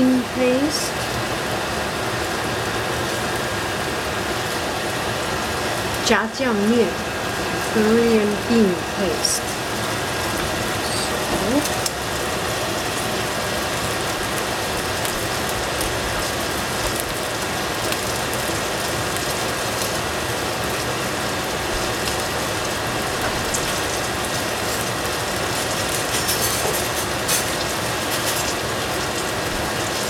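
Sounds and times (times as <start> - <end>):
meat sizzling in a pot: 0.0 - 30.0.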